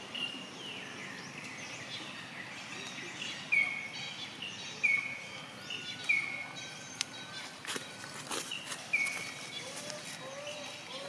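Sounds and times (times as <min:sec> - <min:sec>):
birds chirping and trilling: 0:00.0 - 0:11.0.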